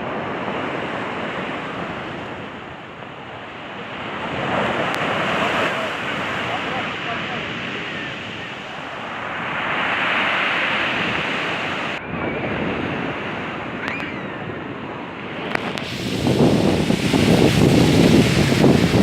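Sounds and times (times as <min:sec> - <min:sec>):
rough sea surf washing in: 0:00.0 - 0:19.0
wind buffeting microphone: 0:00.0 - 0:19.0.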